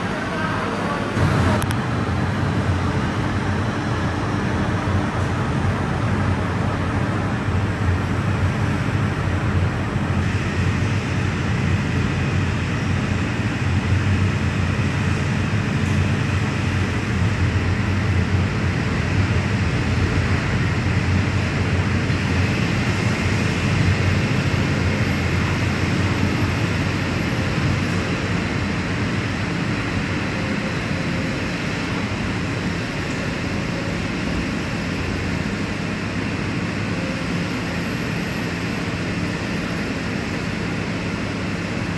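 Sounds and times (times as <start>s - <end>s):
city traffic: 0.0s - 41.9s
trains running on guideway: 0.0s - 41.9s.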